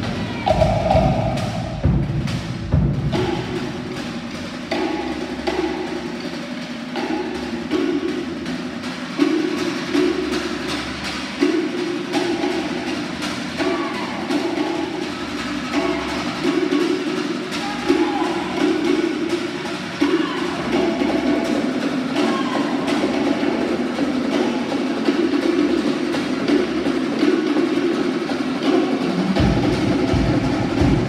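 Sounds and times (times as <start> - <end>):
wooden slit drums striking rapidly: 0.0 - 31.0.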